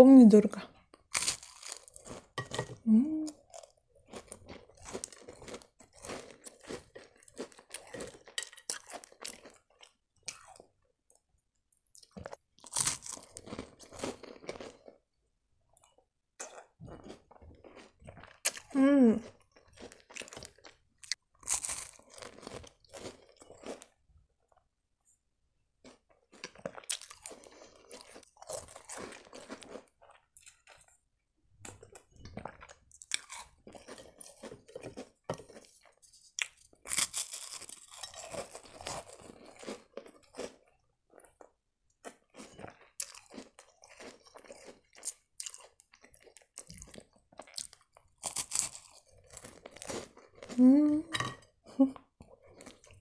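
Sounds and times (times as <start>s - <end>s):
crunching and chewing biscuits: 0.7s - 50.6s, 51.4s - 53.0s.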